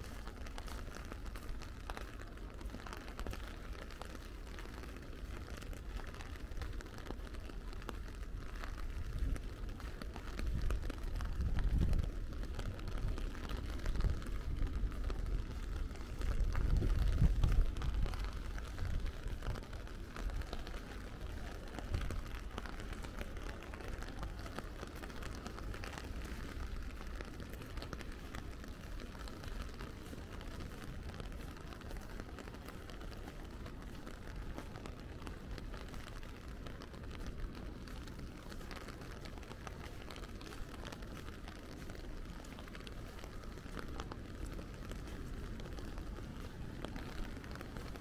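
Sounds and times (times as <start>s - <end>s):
raindrop ticks: 0.0s - 48.0s
steady rain falling: 0.0s - 48.0s.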